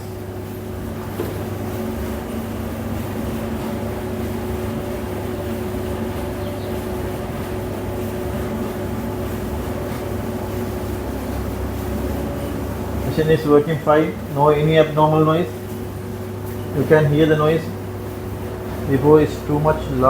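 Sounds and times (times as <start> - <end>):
tumble dryer running: 0.0 - 20.0.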